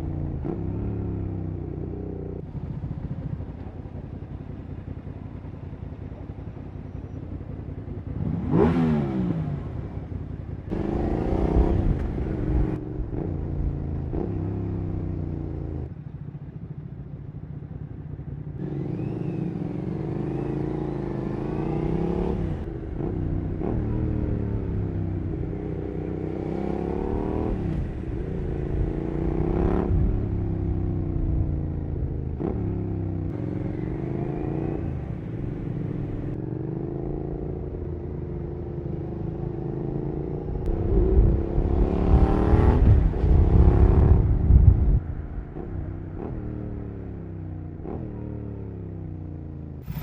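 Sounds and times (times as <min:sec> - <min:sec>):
motorcycle engine revving: 0:00.0 - 0:03.7, 0:05.7 - 0:15.9, 0:18.6 - 0:50.0.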